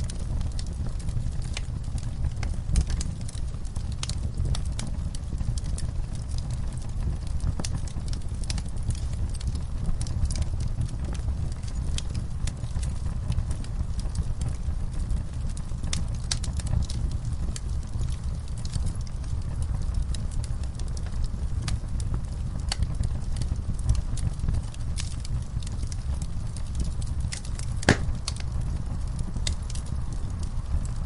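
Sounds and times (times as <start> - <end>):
fire crackling and popping: 0.0 - 31.0
wood fire burning: 0.0 - 31.0.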